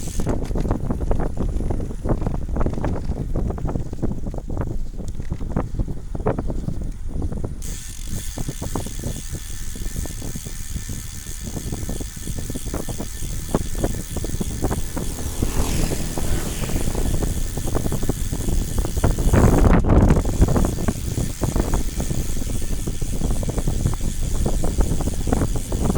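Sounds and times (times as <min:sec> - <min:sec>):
wind rushing over microphone: 0:00.0 - 0:25.9.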